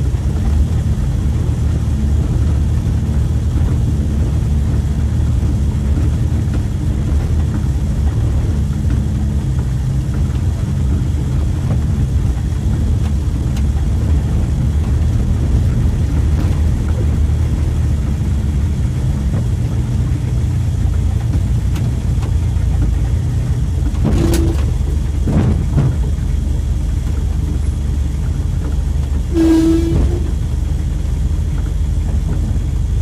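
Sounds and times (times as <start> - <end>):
pickup engine drone: 0.0 - 33.0.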